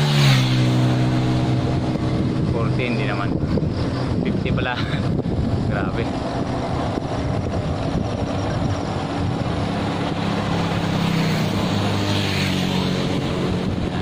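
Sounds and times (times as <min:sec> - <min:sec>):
vehicle engine passing: 0:00.0 - 0:14.0
wind and road noise: 0:00.0 - 0:14.0.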